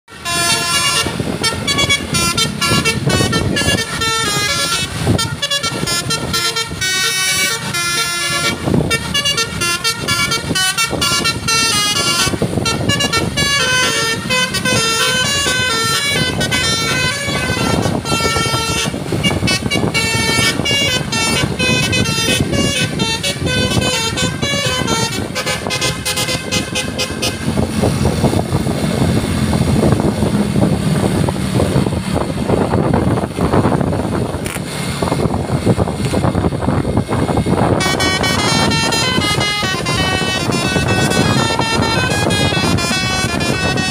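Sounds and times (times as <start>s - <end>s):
multi-tone musical air horn: 0.1s - 30.7s, 37.6s - 43.9s.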